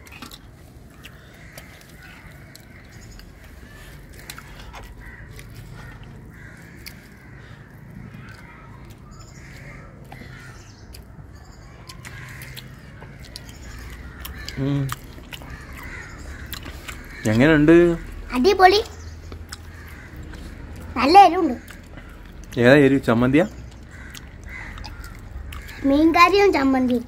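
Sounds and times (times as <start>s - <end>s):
crows cawing: 0.0s - 27.0s.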